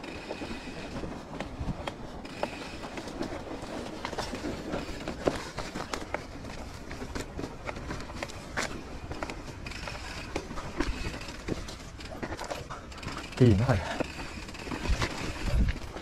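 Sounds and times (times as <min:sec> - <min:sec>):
bike knocks and rattles: 0:00.0 - 0:16.0
bike tyres rolling on dirt: 0:00.0 - 0:16.0.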